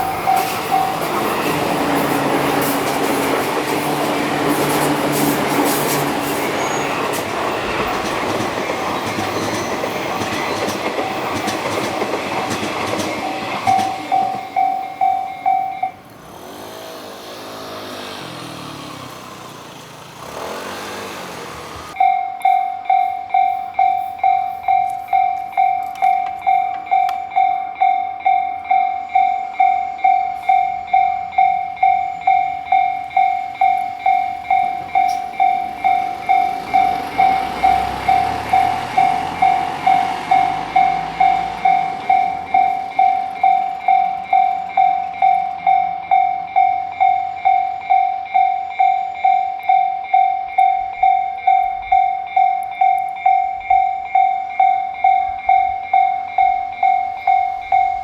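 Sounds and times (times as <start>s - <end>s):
train wheels rumbling: 0.0s - 22.1s, 22.8s - 58.0s
level crossing alarm ringing: 0.0s - 58.0s.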